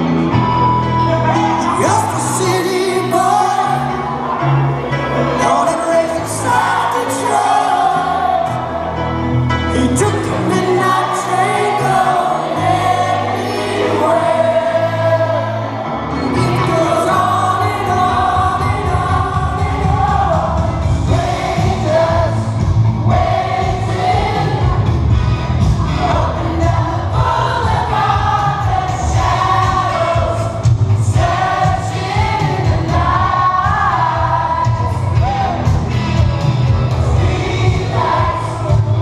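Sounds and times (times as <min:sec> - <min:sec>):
bass line: 0:00.0 - 0:39.0
sung vocals: 0:01.1 - 0:39.0.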